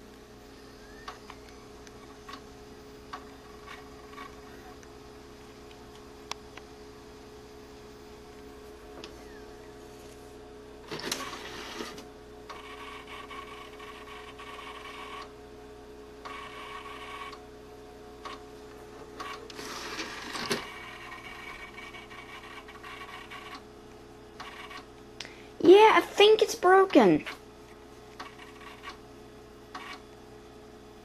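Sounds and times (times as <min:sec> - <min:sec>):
computer drives whirring: 0:00.0 - 0:31.0
computer steady hum: 0:00.0 - 0:31.0.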